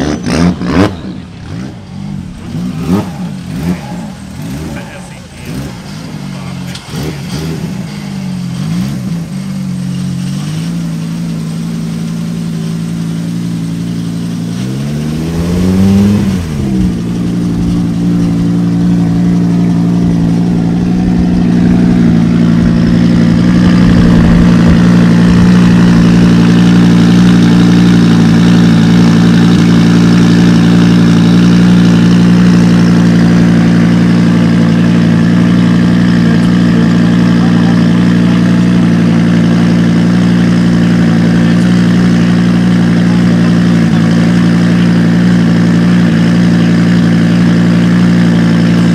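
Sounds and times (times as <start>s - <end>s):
rally car engine idling and revving: 0.0s - 48.9s.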